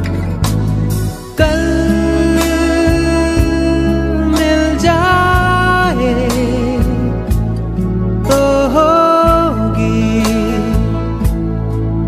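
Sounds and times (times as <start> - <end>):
slow song: 0.0 - 12.0.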